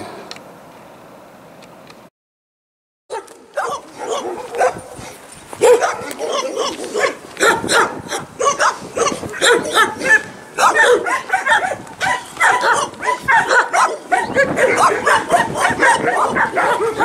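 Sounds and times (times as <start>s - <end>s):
dogs barking: 3.1s - 17.0s.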